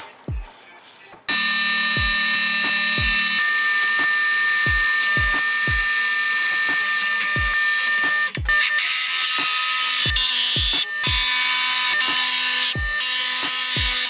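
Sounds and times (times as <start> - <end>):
background music with kick drum: 0.0 - 3.4, 4.0 - 8.6, 9.4 - 14.0
drill press whine: 1.3 - 14.0.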